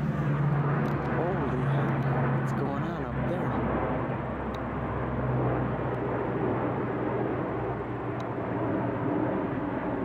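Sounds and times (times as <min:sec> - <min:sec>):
propeller aircraft droning overhead: 0:00.0 - 0:10.0.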